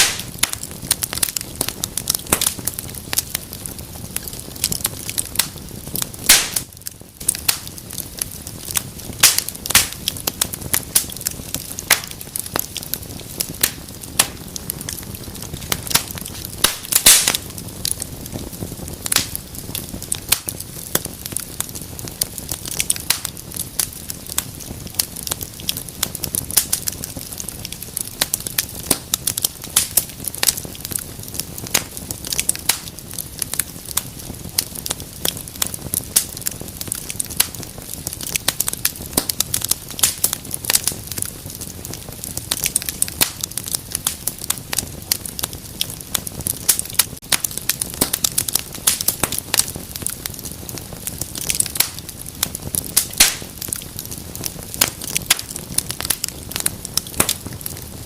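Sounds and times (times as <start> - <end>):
fire low hiss: 0.0 - 58.0
wood fire crackling and popping: 0.0 - 58.0.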